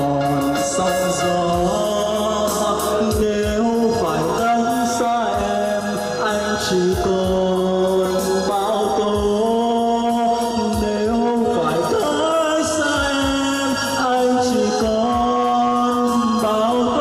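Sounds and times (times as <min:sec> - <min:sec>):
backing music with steady beat: 0:00.0 - 0:17.0
man singing into a microphone: 0:00.0 - 0:17.0.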